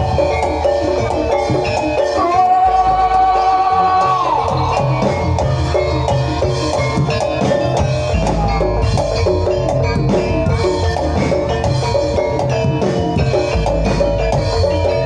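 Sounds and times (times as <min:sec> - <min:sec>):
tuned metal percussion notes: 0:00.0 - 0:15.0.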